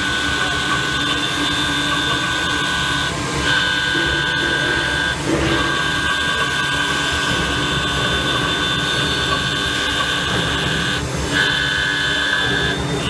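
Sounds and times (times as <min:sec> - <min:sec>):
machine whine over hum: 0:00.0 - 0:13.0.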